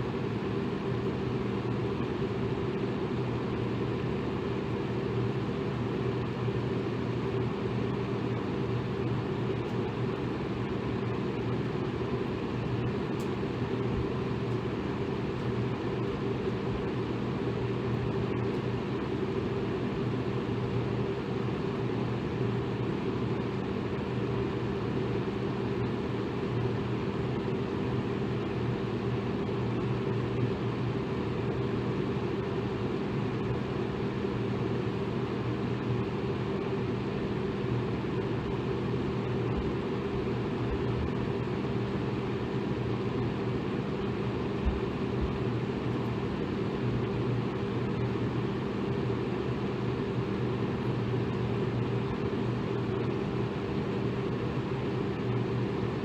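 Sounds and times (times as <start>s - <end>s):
electric fan whooshing: 0.0s - 56.0s
faint motor drone: 0.0s - 56.0s.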